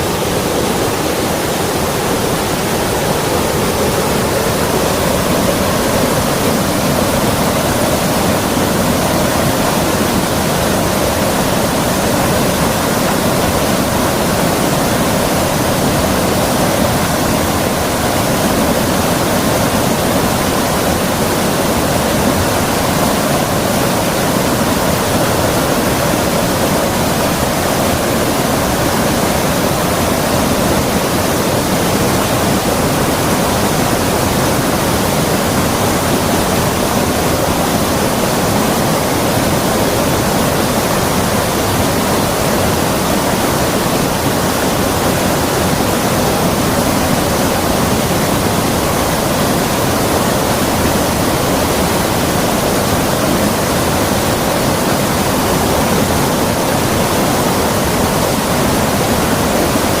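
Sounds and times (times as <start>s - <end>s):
creek water running: 0.0s - 60.0s.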